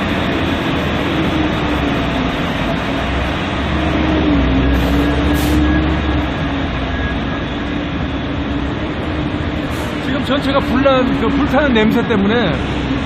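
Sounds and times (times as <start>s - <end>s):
heavy machinery rumbling and humming: 0.0s - 13.0s.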